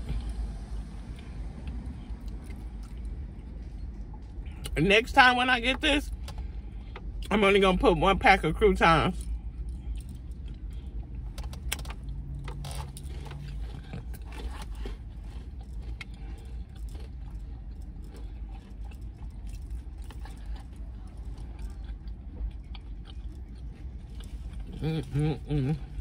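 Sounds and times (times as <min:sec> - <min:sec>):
chewing and crunching salad: 0:00.0 - 0:26.0
low hum: 0:00.0 - 0:26.0.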